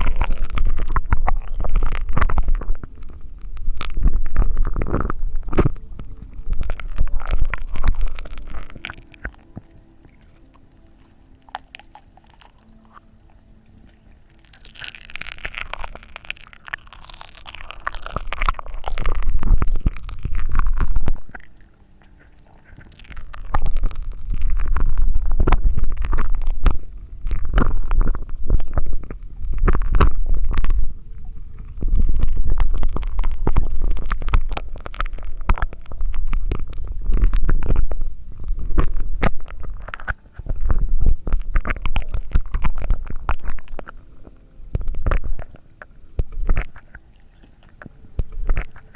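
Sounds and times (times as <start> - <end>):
gurgling mouth sounds: 0.0 - 48.9.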